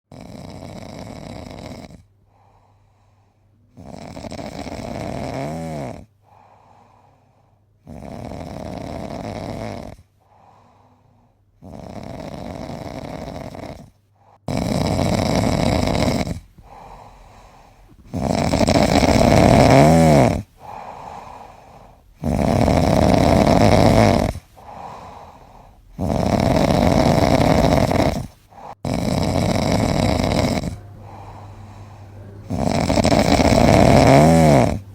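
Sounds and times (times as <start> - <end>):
cat snoring: 0.1 - 34.9.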